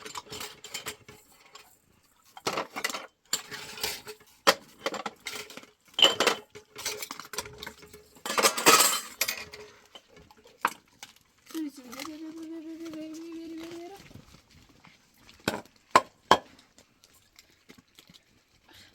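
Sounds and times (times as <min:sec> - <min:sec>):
clinks and knocks of objects: 0:00.0 - 0:18.6.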